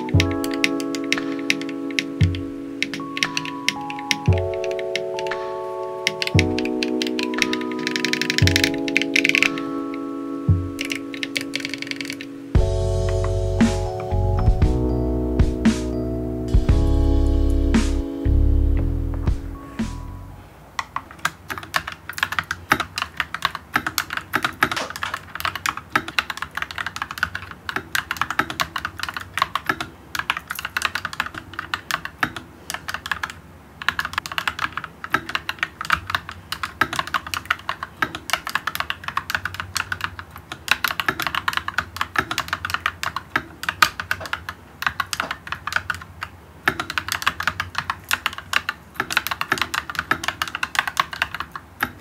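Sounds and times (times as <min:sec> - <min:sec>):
mechanical keyboard typing: 0:00.0 - 0:12.5, 0:20.8 - 0:52.0.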